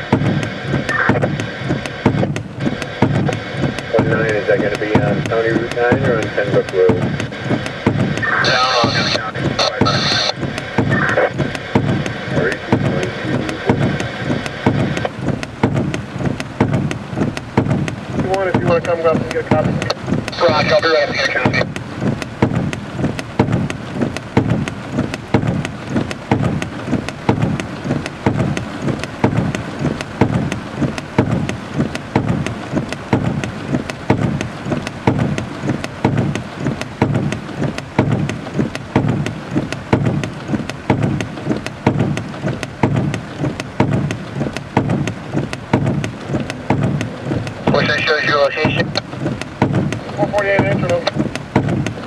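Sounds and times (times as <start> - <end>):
rain hitting windshield and roof: 0.0 - 52.0.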